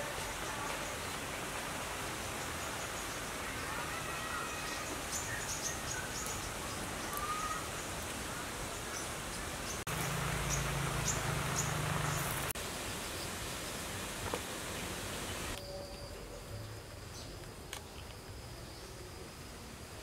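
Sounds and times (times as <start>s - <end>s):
small birds chirping: 0.1s - 19.1s.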